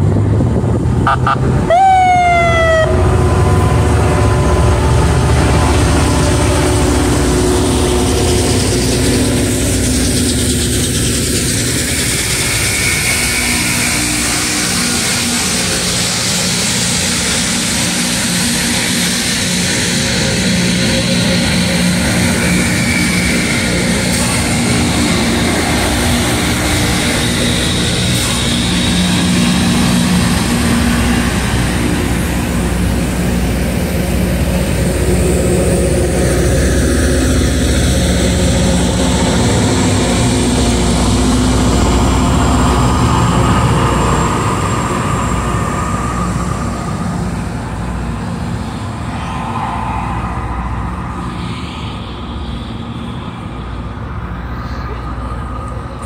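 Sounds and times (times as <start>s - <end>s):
diesel freight train passing: 0.0s - 56.0s.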